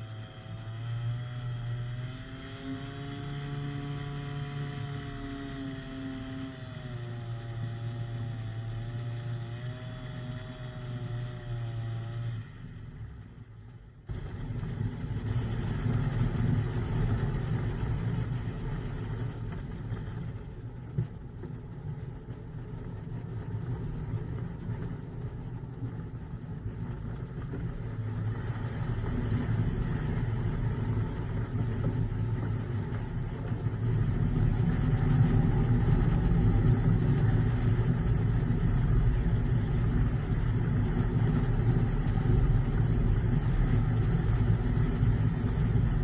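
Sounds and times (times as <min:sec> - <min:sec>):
hang glider engine running: 0:00.0 - 0:46.0
steady rumbling noise: 0:00.0 - 0:46.0.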